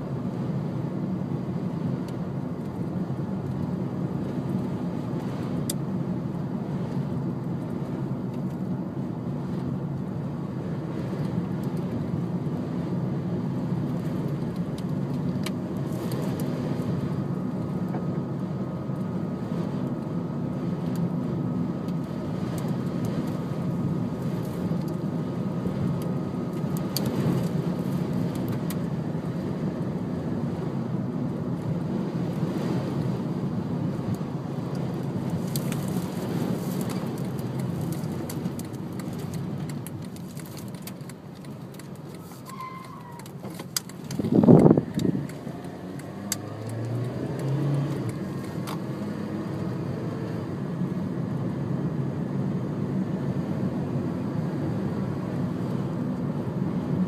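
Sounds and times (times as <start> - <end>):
car interior road and engine drone: 0.0 - 57.0.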